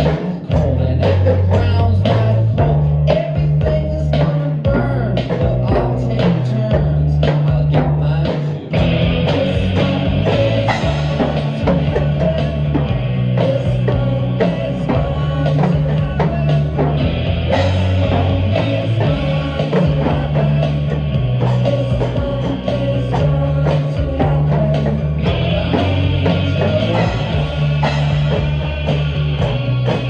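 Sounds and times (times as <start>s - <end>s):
drum kit playing: 0.0s - 30.0s
rock song with vocals: 0.0s - 30.0s.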